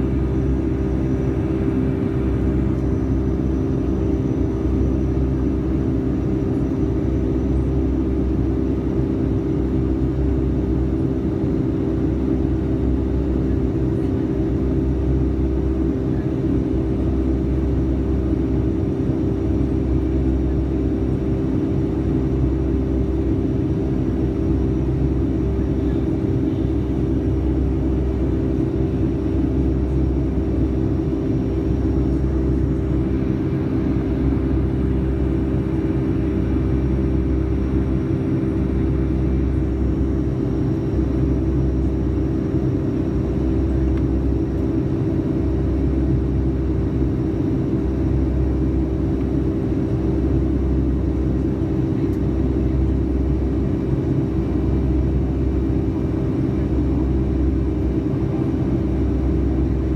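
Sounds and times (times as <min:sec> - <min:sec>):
jet cabin engine drone: 0:00.0 - 0:59.9.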